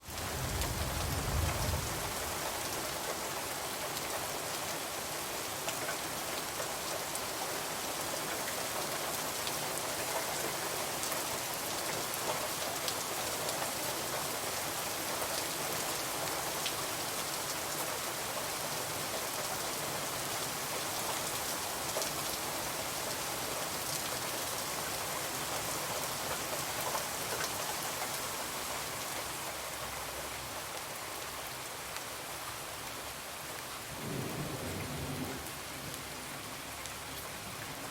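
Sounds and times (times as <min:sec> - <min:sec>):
rain on a window: 0:00.0 - 0:37.9.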